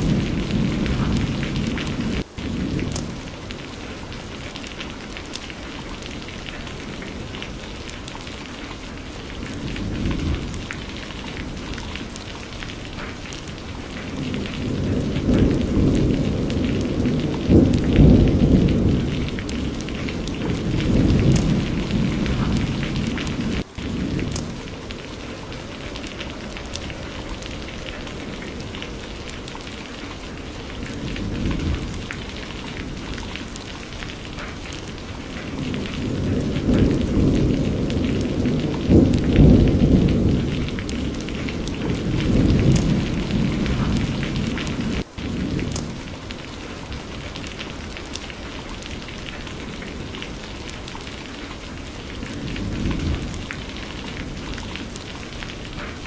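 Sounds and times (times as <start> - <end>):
steady rain falling: 0.0 - 56.0
thunder rumbling: 0.0 - 56.0.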